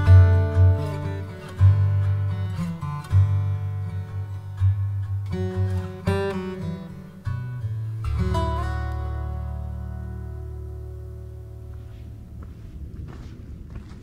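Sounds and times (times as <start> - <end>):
acoustic guitar strumming: 0.0 - 12.5.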